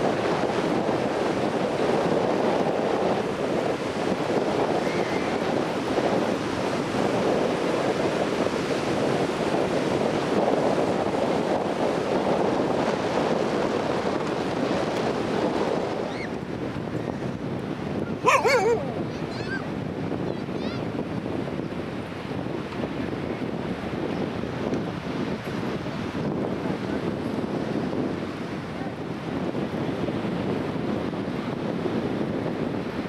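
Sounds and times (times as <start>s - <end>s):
sea surf washing: 0.0s - 33.0s
wind on microphone: 0.0s - 33.0s.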